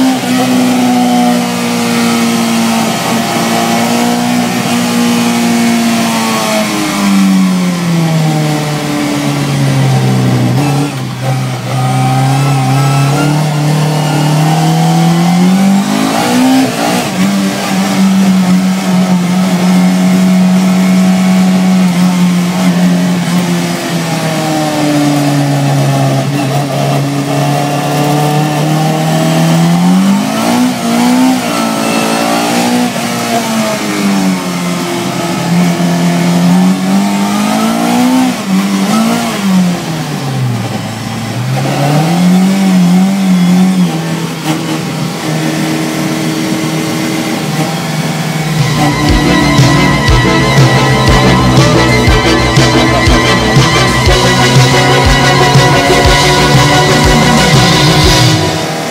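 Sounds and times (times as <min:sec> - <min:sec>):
car engine revving in cabin: 0:00.0 - 0:58.9.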